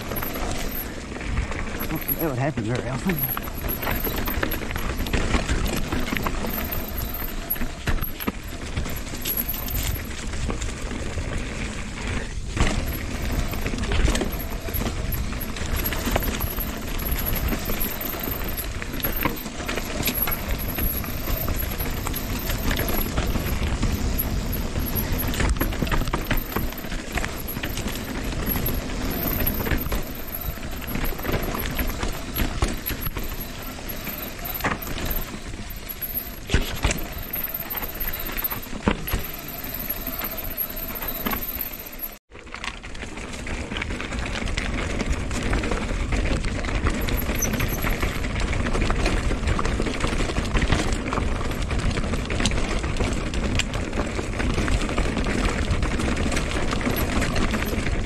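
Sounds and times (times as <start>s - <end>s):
bike tyres crunching over stones: 0.0s - 58.0s.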